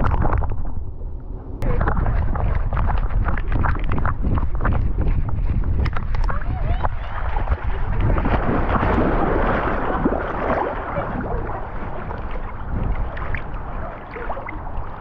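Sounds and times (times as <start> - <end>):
water splashing and sloshing: 0.0 - 15.0
wind rumble on microphone: 0.0 - 15.0.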